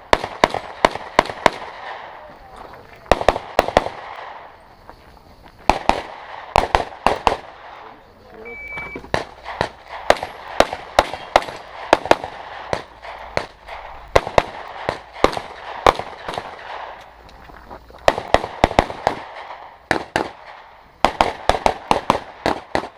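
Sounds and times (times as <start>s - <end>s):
rapid handgun gunfire: 0.0s - 2.2s, 3.1s - 4.5s, 5.7s - 7.9s, 9.1s - 17.0s, 18.0s - 22.9s.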